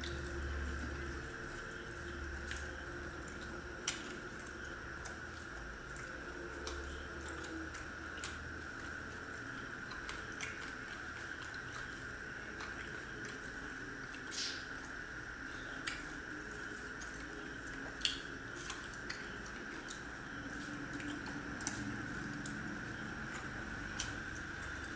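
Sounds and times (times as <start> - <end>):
soft chewing and mouth sounds: 0.0 - 24.9
steady background hum: 0.0 - 24.9.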